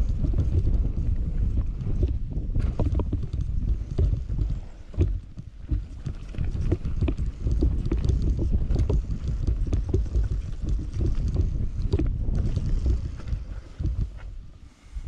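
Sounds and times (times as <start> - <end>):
bike rattling over bumps: 0.0 - 14.4
bike tyres rumbling on dirt: 0.0 - 15.0
wind buffeting microphone: 0.0 - 15.0.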